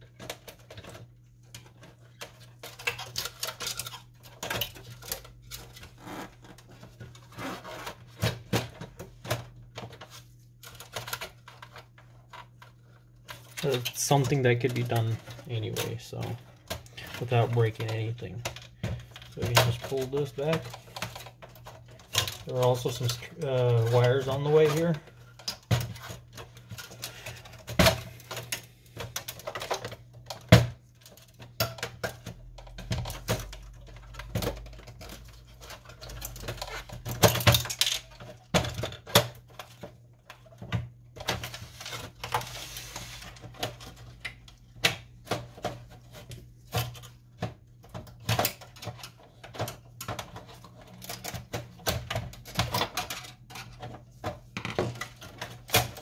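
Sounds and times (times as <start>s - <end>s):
printer parts clicking and knocking: 0.0s - 6.0s, 8.0s - 42.4s, 43.3s - 56.0s.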